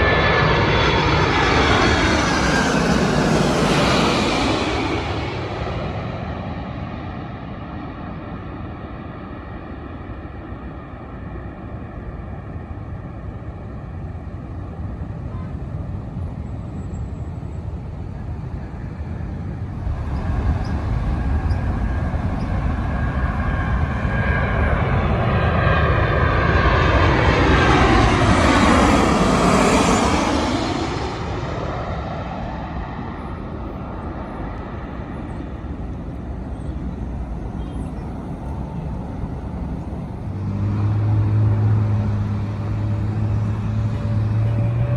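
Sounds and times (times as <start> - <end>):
jet airliner engine whine: 0.0 - 44.9.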